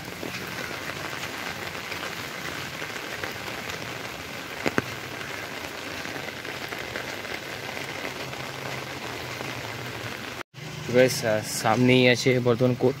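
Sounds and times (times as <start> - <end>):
rain on a wet street: 0.0 - 10.5.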